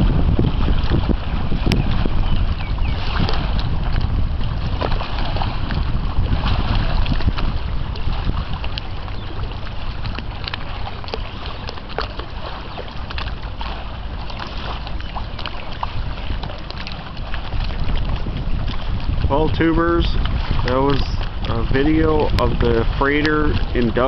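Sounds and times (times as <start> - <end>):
river water lapping and splashing: 0.0 - 24.0
wind buffeting microphone: 0.0 - 24.0.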